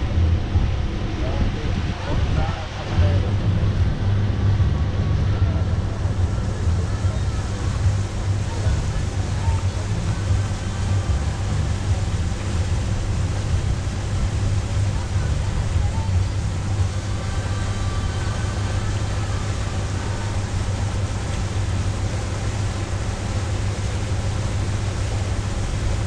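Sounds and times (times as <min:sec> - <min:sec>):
boat engine droning: 0:00.0 - 0:26.0
water rushing: 0:00.0 - 0:26.0.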